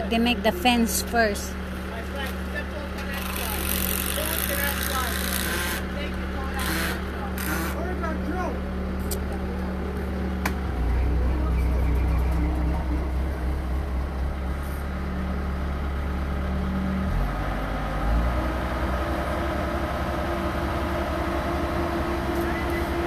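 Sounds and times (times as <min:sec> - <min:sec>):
truck engine humming: 0:00.0 - 0:23.0.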